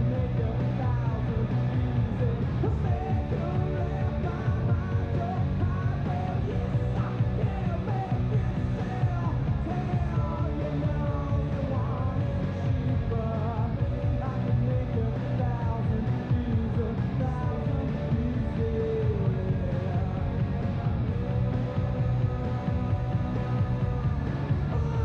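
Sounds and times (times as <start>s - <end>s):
rock music with singing: 0.0s - 25.0s.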